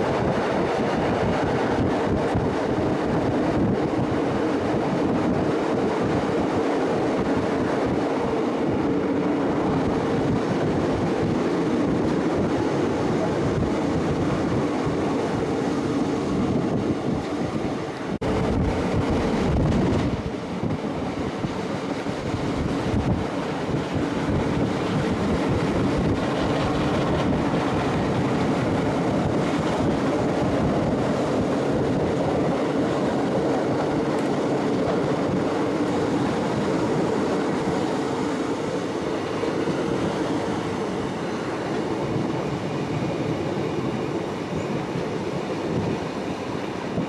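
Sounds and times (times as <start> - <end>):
train engine humming: 0.0 - 47.0
wheels rumbling on rail: 0.0 - 47.0.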